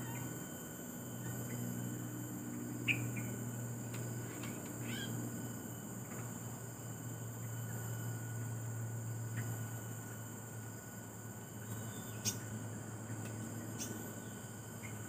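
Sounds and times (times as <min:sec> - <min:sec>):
high insect drone: 0:00.0 - 0:15.0
low steady hum: 0:00.0 - 0:15.0.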